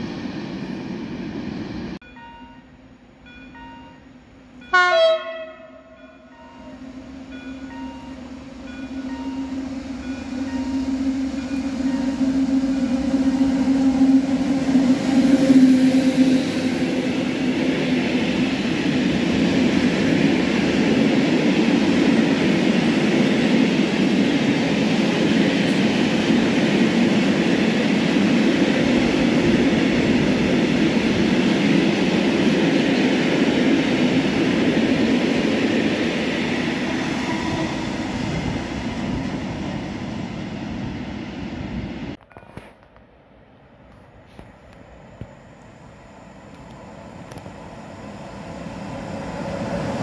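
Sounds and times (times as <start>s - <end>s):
train wheels rumbling on rails: 3.2s - 43.0s, 43.8s - 50.0s.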